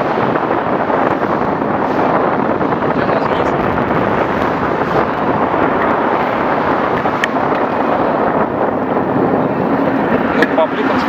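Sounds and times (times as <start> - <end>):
car traffic: 0.0 - 11.0
wind rushing over microphone: 0.0 - 11.0.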